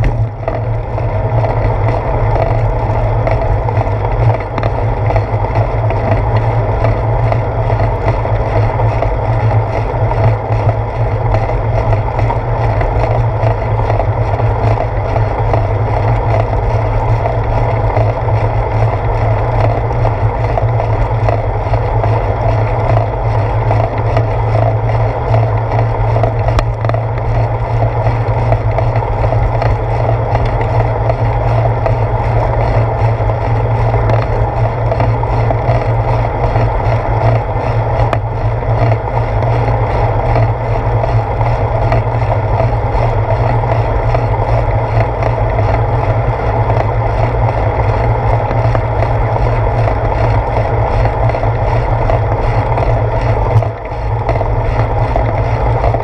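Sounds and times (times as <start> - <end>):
bicycle tyre hum on asphalt: 0.0 - 56.0
wind rushing over camera: 0.0 - 56.0.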